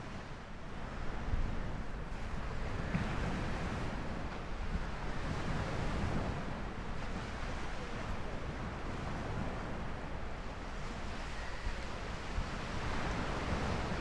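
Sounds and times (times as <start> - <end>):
wind rumbling on microphone: 0.0 - 14.0
sea waves washing: 0.1 - 14.0.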